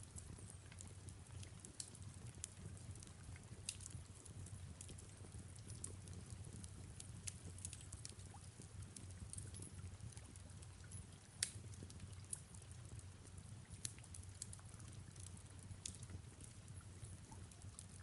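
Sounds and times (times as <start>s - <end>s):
fireplace crackling and popping: 0.0s - 18.0s
soft rain: 0.0s - 18.0s.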